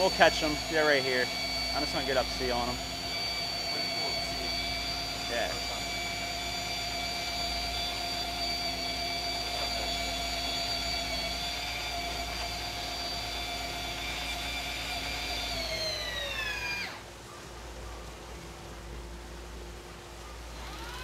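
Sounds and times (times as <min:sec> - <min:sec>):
boat engines whining: 0:00.0 - 0:21.0
wind: 0:00.0 - 0:21.0.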